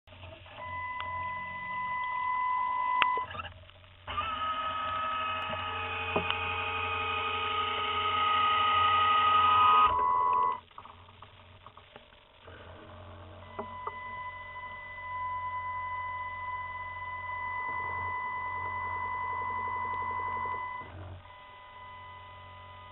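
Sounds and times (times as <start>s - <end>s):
electric motor whine: 0.6s - 10.6s, 12.4s - 22.9s.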